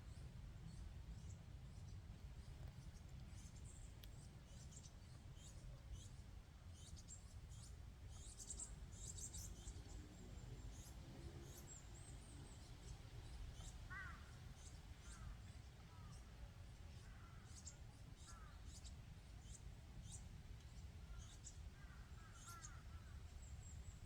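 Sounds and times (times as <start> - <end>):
low rumble of wind: 0.0 - 24.0
small birds chirping: 0.1 - 24.0.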